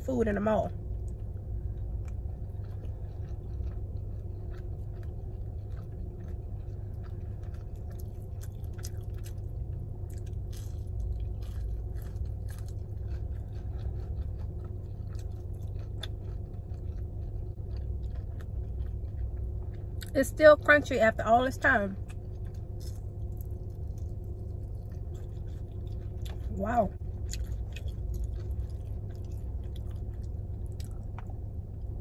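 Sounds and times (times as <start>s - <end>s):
steady low hum: 0.0s - 32.0s
person chewing crunchy food: 0.8s - 20.1s, 22.0s - 32.0s.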